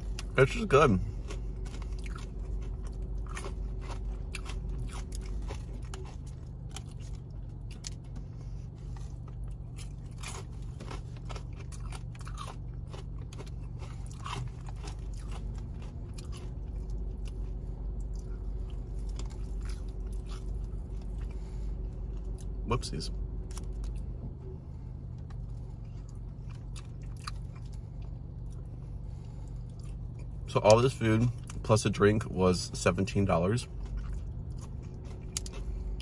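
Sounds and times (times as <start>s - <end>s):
wet chewing: 0.0s - 22.6s, 25.2s - 31.7s, 33.6s - 36.0s
crunchy chewing of fried food: 0.0s - 36.0s
steady low hum: 0.0s - 36.0s.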